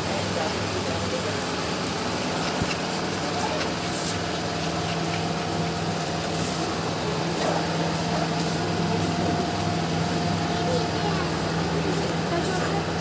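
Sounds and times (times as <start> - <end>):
constant hiss: 0.0 - 13.0
mechanical hum: 0.0 - 13.0.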